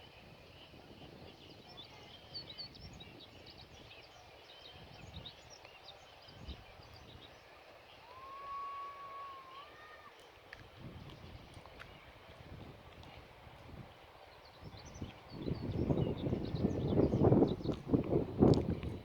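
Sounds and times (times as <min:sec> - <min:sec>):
low rumble of wind: 0:00.0 - 0:19.0
small birds chirping: 0:00.1 - 0:08.5, 0:09.2 - 0:19.0.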